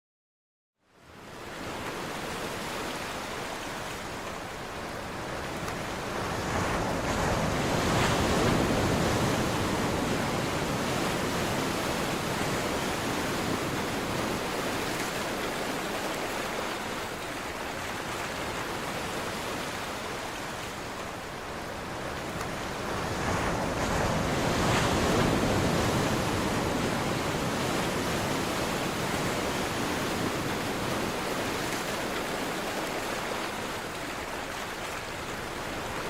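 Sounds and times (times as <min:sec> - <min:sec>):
ocean waves breaking on shore: 0:01.0 - 0:36.0.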